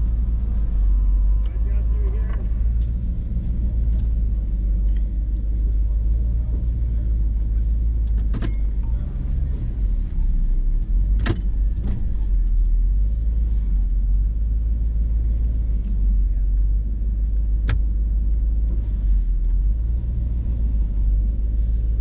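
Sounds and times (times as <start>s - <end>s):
engine rumbling inside cab: 0.0s - 22.0s.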